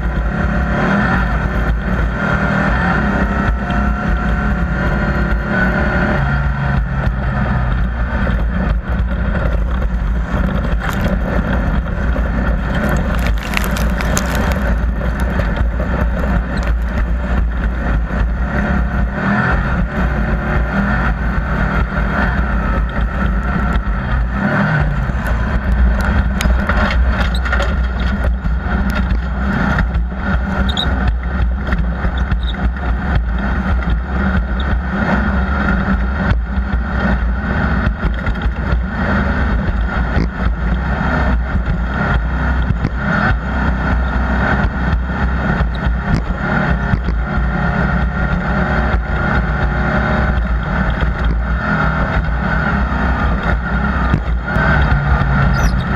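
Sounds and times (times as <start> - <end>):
vehicle engine running under load: 0.0 - 55.9.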